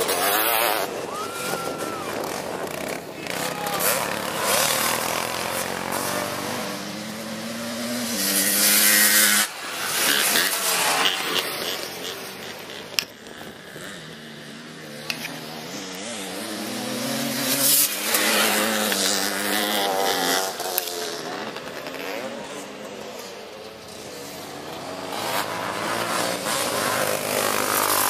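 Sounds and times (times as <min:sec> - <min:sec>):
three-wheeler engines revving past: 0:00.0 - 0:28.0.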